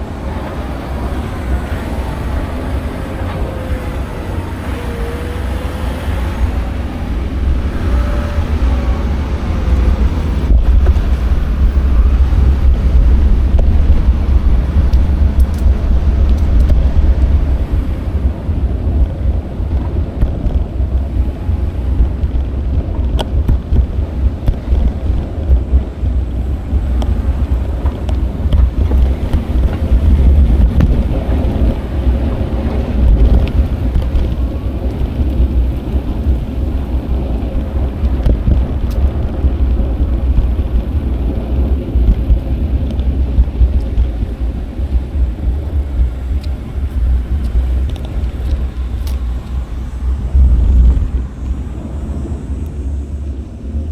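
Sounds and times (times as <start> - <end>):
faint road and traffic noise: 0.0 - 53.9
wind buffeting microphone: 0.0 - 53.9.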